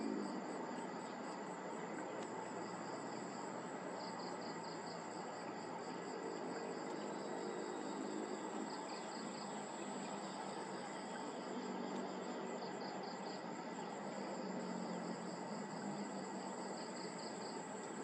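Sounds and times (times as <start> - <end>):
constant hiss: 0.0 - 18.0
insects buzzing: 0.0 - 18.0
insects chirping: 0.0 - 18.0.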